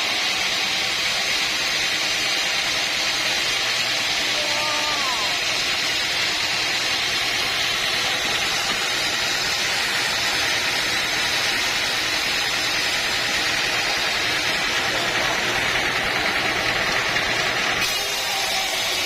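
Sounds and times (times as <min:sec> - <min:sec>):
sawmill machinery hissing: 0:00.0 - 0:19.0.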